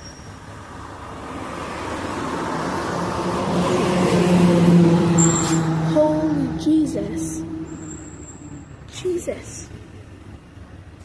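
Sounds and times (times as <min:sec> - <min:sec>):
engine hum: 0:00.0 - 0:11.0
vehicle tyres on road: 0:00.0 - 0:11.0.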